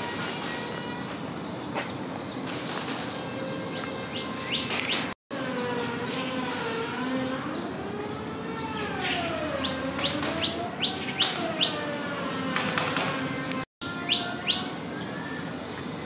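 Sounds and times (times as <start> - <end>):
bird chirping: 1.4 - 15.9.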